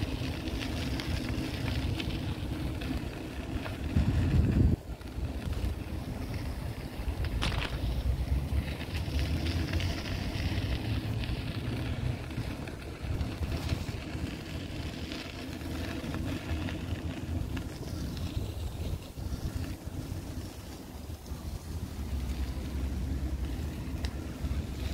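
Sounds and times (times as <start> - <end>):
steady low rumble: 0.0 - 24.9
wind buffeting microphone: 0.0 - 24.9.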